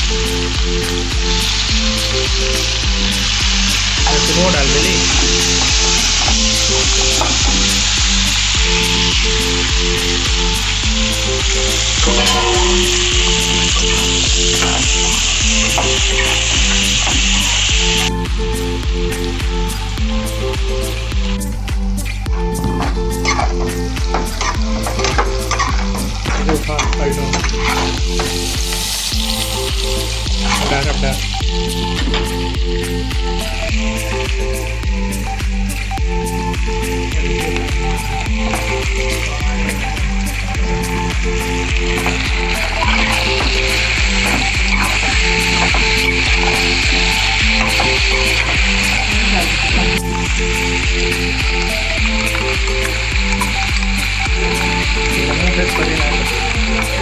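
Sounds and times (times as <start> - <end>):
background music with beat: 0.0 - 57.0
food sizzling in hot oil: 0.0 - 57.0.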